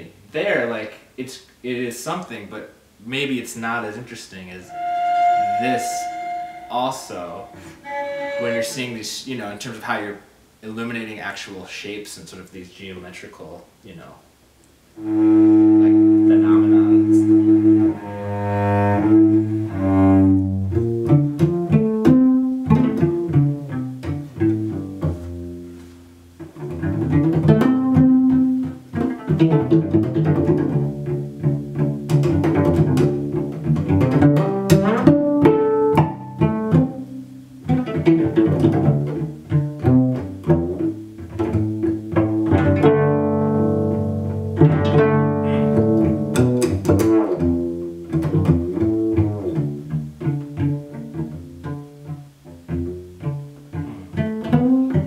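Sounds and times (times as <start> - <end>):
plucked cello notes: 4.6 - 9.5, 15.0 - 55.0
bowed cello notes: 4.6 - 9.6, 15.0 - 55.0.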